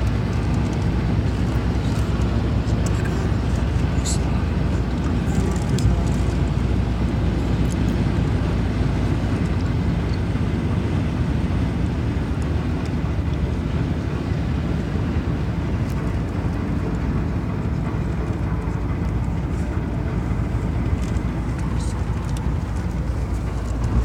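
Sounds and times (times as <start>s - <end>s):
vehicle driving rumble: 0.0s - 24.0s.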